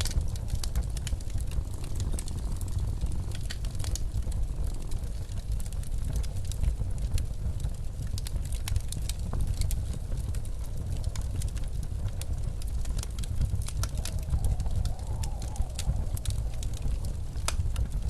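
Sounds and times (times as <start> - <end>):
blizzard wind howling: 0.0 - 18.0
wood fire crackling: 0.0 - 18.0.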